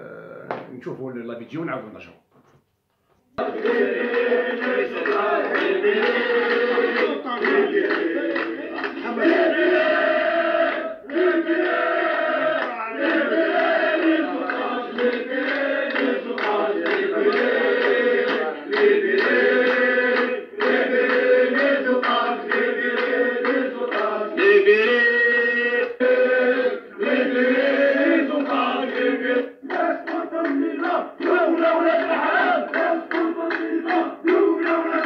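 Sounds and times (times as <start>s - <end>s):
crowd of men chanting through phone: 3.4s - 35.0s.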